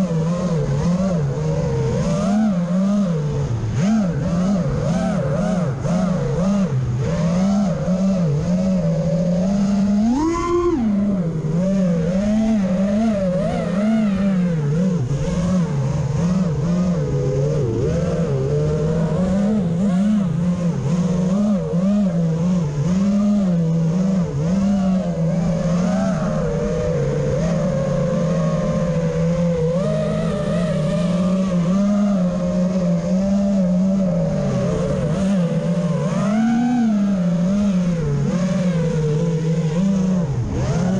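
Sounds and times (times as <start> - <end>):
quadcopter propellers whining: 0.0 - 40.9.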